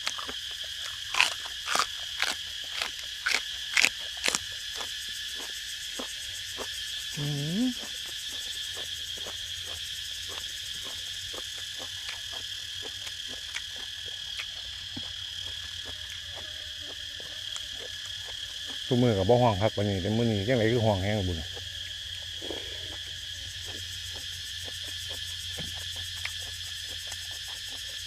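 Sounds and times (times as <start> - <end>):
person chewing: 0.0 - 18.9, 22.3 - 27.8
cricket chorus trilling: 0.0 - 28.0.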